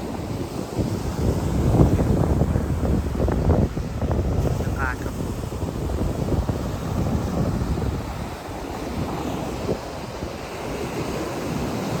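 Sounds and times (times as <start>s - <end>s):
sea surf washing on shore: 0.0s - 12.0s
wind rumbling on microphone: 0.0s - 12.0s.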